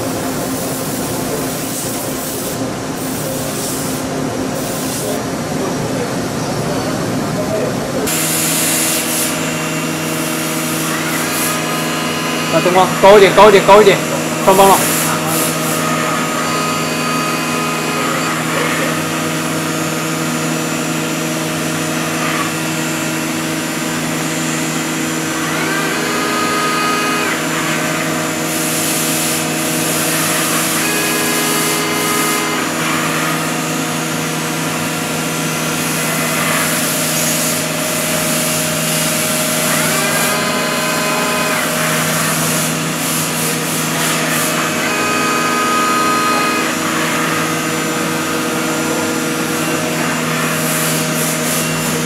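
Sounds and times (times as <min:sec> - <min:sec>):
milling machine hum: 0:00.0 - 0:52.0.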